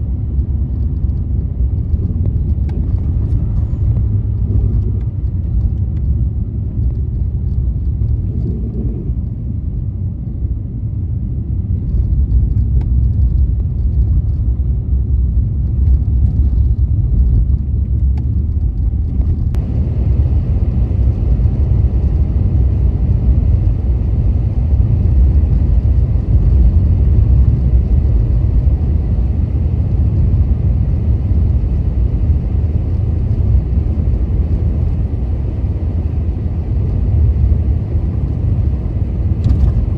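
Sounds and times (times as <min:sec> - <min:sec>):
tyres and engine rumble: 0:00.0 - 0:39.9.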